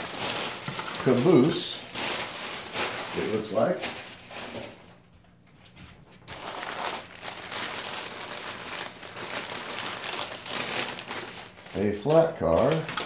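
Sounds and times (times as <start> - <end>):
packing paper rustling and crinkling: 0.0 - 5.1, 5.7 - 13.0.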